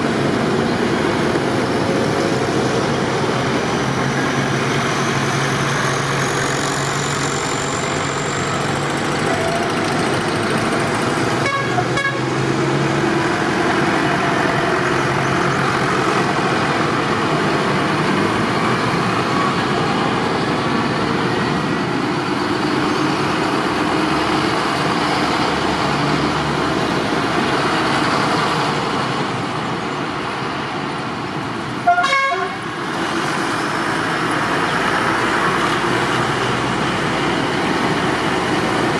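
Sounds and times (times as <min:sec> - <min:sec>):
tractor engines running: 0:00.0 - 0:38.9.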